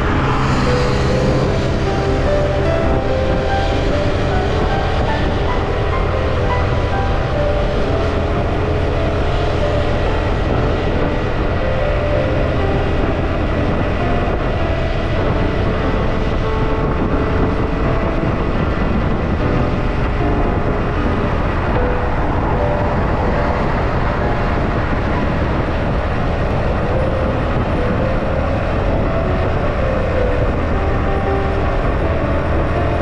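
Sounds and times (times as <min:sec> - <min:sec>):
motorbike road noise: 0:00.0 - 0:33.0
wind rumble: 0:00.0 - 0:33.0.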